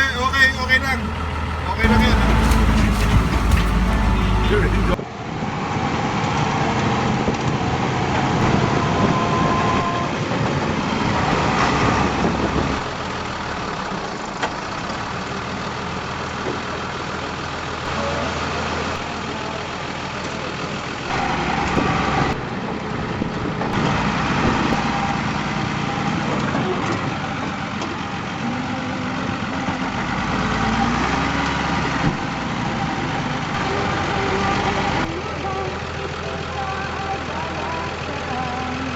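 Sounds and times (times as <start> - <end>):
truck engine running: 0.0 - 5.0, 12.2 - 38.9.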